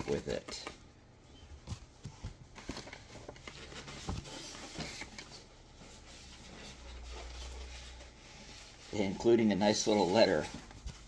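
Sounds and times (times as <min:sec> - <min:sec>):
paper and cardboard rustling: 0:00.0 - 0:11.0.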